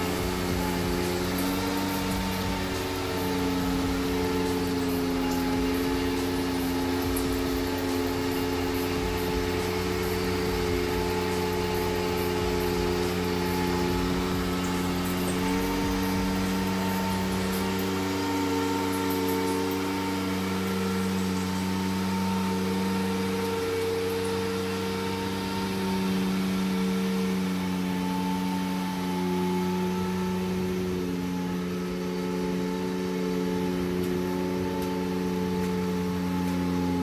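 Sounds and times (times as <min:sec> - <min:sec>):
power trowel engine running: 0:00.0 - 0:37.0.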